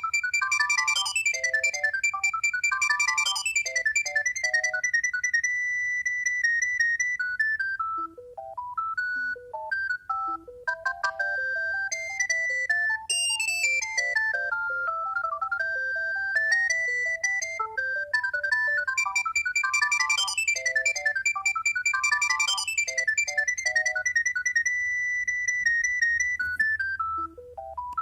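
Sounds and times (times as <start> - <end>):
electronic ringtone melody: 0.0 - 28.0.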